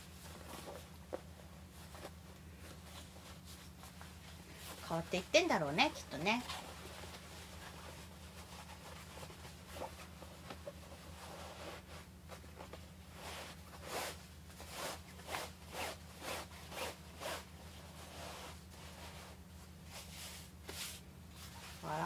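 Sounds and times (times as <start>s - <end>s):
cloth rubbing: 0.0s - 22.0s
low electrical hum: 0.0s - 22.0s.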